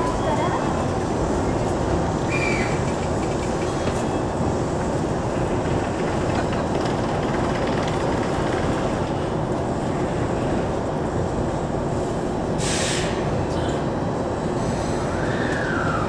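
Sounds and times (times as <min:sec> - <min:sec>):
train car rumbling: 0:00.0 - 0:16.0.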